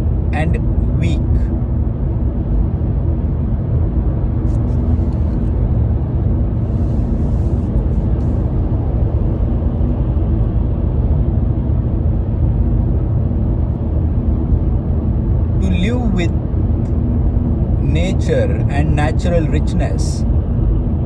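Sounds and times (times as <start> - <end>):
steady low rumbling: 0.0 - 21.0.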